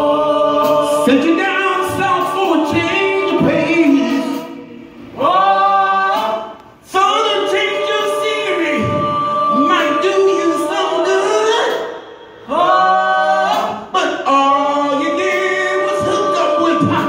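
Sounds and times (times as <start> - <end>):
group singing in harmony: 0.0 - 17.0.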